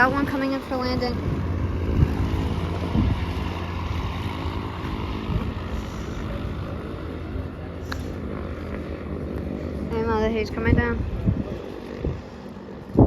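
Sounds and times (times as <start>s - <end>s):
aircraft engine droning: 0.0s - 13.0s
wind buffeting microphone: 0.0s - 13.0s.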